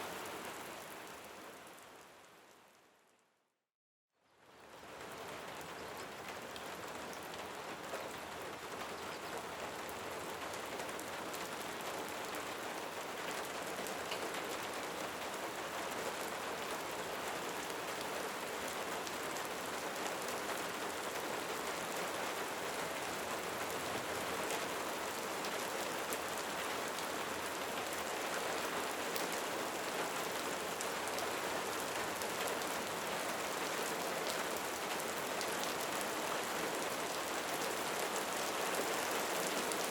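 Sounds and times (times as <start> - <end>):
steady rain falling: 0.0 - 3.2, 4.4 - 39.9.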